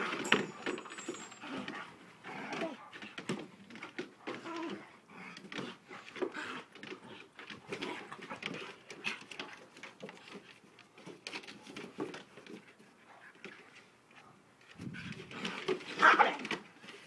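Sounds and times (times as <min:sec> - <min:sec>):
dogs play-fighting: 0:00.0 - 0:17.0
dogs scuffling: 0:00.0 - 0:17.0.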